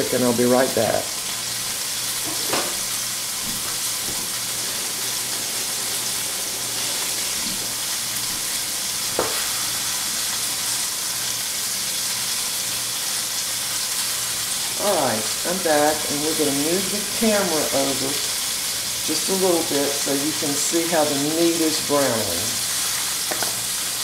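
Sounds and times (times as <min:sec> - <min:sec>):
meat sizzling in a skillet: 0:00.0 - 0:24.0.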